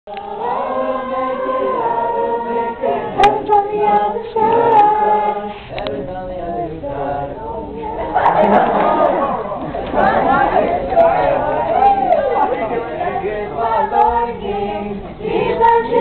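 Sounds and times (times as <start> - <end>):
group singing long sliding notes: 0.1 - 16.0.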